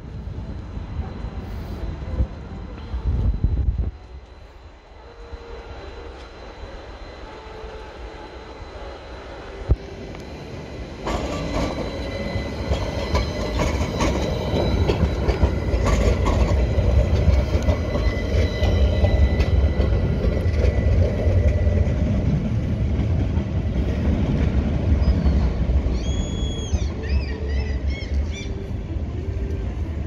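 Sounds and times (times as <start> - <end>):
tram wheels rumbling on rails: 0.0 - 30.0
wheels squealing on rails: 0.3 - 30.0.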